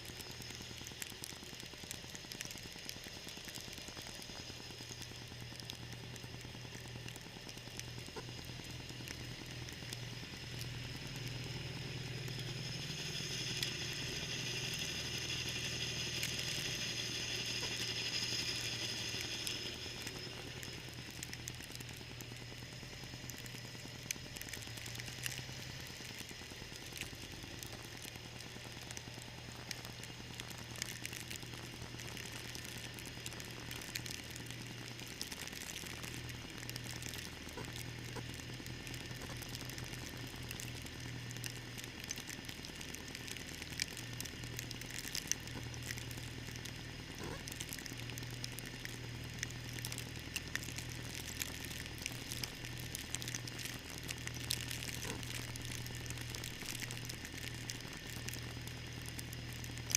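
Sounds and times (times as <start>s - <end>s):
crackling hiss with ticks: 0.0s - 59.9s
tractor engine humming: 0.0s - 59.9s.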